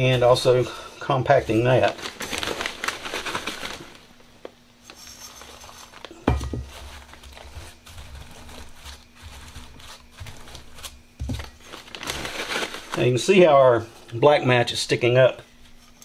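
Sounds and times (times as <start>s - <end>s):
hands compacting crinkling material: 0.0s - 4.6s, 5.4s - 13.7s.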